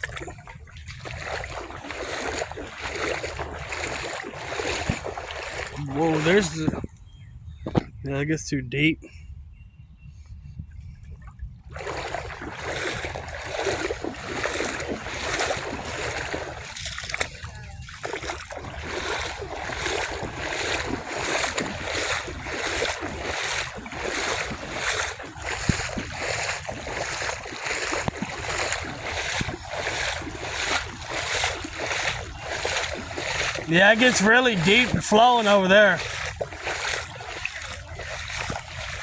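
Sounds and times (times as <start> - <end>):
footsteps wading through water: 0.0 - 7.8, 10.9 - 39.0.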